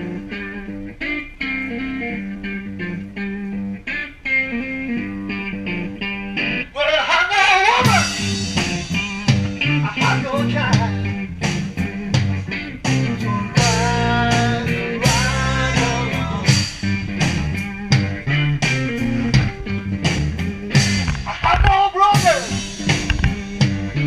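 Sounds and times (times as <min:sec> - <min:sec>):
rock music: 0:00.0 - 0:24.0.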